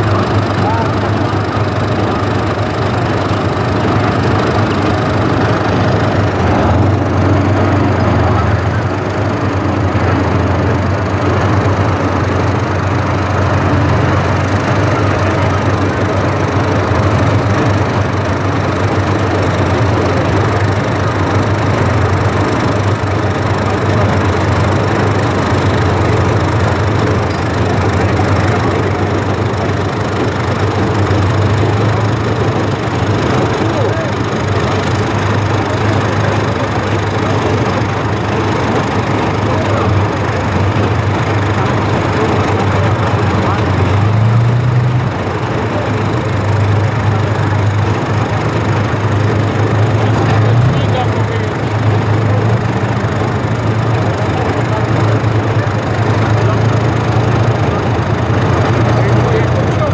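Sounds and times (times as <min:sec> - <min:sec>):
deep diesel engine running: 0:00.0 - 0:59.9.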